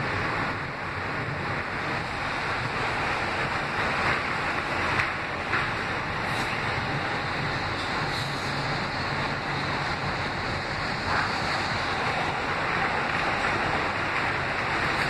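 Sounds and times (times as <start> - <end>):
subway car wheels rumbling: 0.0 - 15.0.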